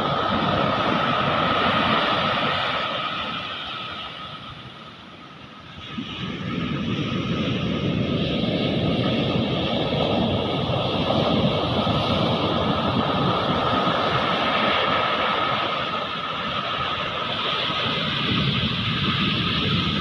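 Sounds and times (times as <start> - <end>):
ocean surf breaking: 0.0 - 4.8, 5.7 - 20.0
wind buffeting microphone: 0.0 - 20.0.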